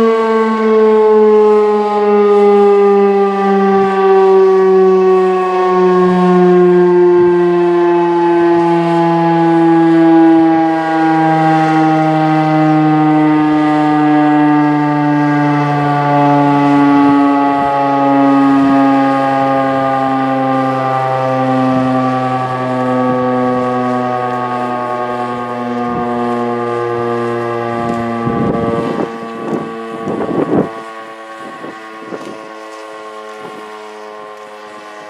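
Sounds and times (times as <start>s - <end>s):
fire siren winding down: 0.0s - 35.0s.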